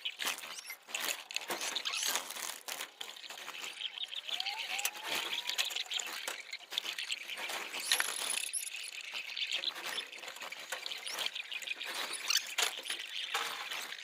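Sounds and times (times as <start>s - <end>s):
pigeons squeaking: 0.0s - 14.0s.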